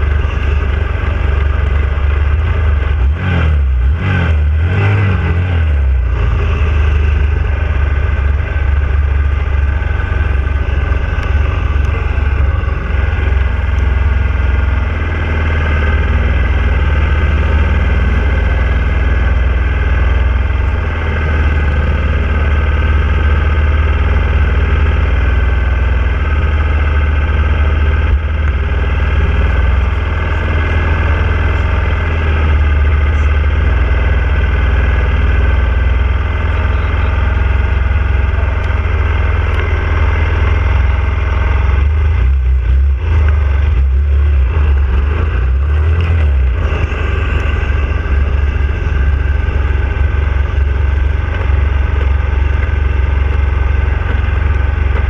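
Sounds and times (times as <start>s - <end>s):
motorcycle engine idling: 0.0s - 4.0s, 5.2s - 55.0s.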